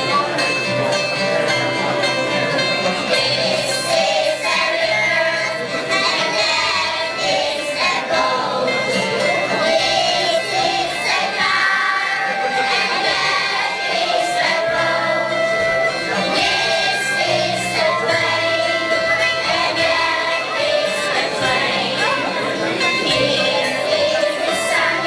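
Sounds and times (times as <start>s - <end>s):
guitar accompaniment: 0.0s - 25.0s
children's choir singing: 1.3s - 25.0s.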